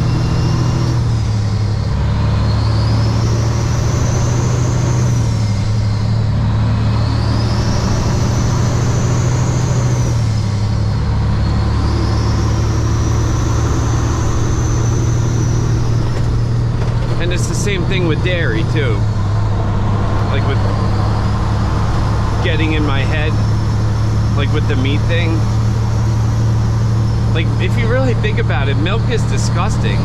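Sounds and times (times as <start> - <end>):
diesel truck engine running: 0.0 - 30.0
road noise: 0.0 - 30.0.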